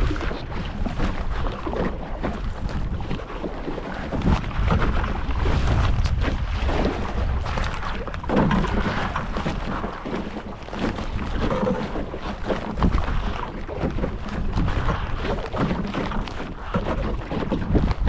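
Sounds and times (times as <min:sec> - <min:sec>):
paddle splashing water: 0:00.0 - 0:18.0
wind rumble on microphone: 0:00.0 - 0:18.0.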